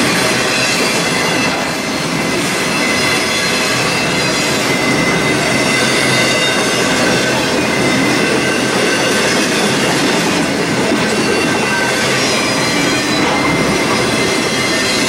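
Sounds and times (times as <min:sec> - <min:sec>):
high wheel squeal: 0:00.0 - 0:15.0
steel wheels rumbling on rail: 0:00.0 - 0:15.0.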